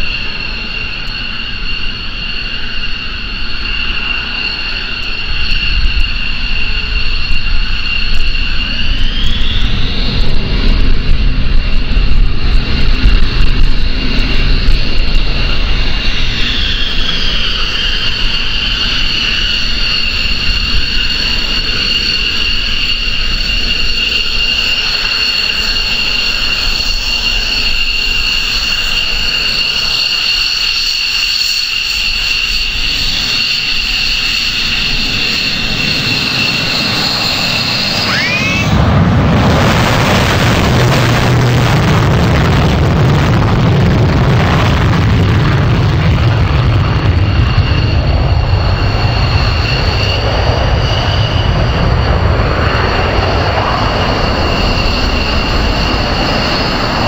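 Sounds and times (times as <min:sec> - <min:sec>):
jet engines turbine whine: 0:00.0 - 0:57.0.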